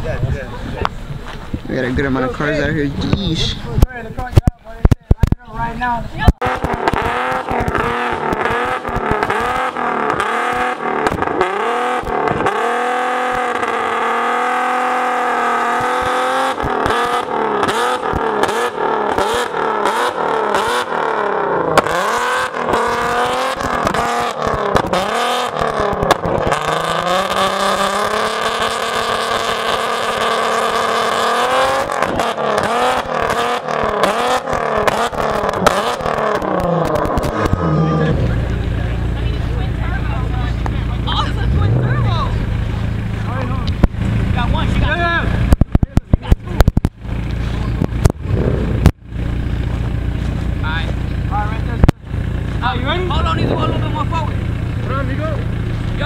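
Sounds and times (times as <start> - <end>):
car engine revving: 6.2 - 56.0.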